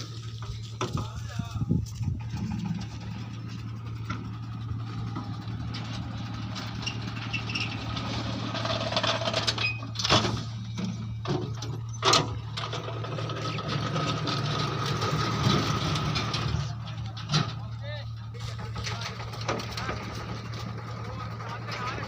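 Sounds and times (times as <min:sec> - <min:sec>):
engine running with low hum: 0:00.0 - 0:22.0.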